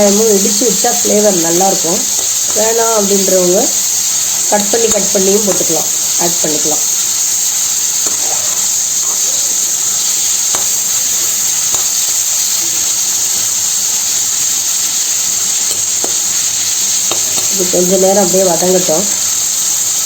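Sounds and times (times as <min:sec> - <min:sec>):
stirring clicks and knocks: 0:00.0 - 0:20.0
vegetables sizzling in oil: 0:00.0 - 0:20.0.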